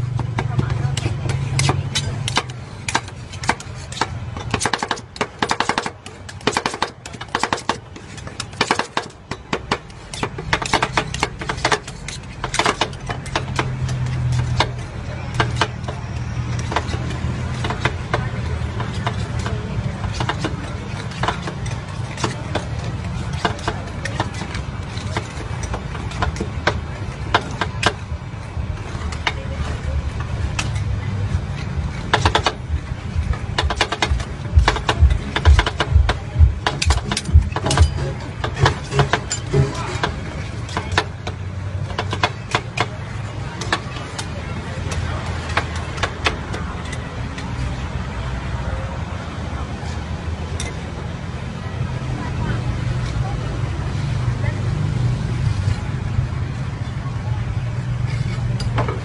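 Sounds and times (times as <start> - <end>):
metal spatulas chopping ice cream: 0.0 - 48.9.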